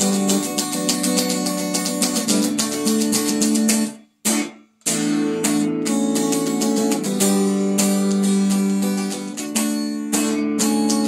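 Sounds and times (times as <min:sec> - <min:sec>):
electric guitar strumming chords: 0:00.0 - 0:11.0.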